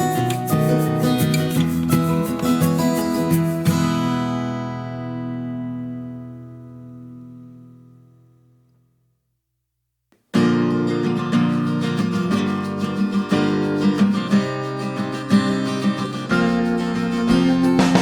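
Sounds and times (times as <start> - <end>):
strummed acoustic guitar: 0.0 - 8.5, 10.3 - 18.0.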